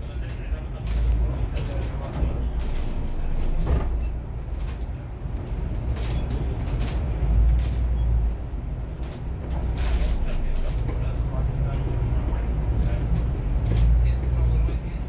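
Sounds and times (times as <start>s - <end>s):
bus engine and road noise: 0.0s - 15.0s
interior fittings rattling and creaking: 0.0s - 15.0s.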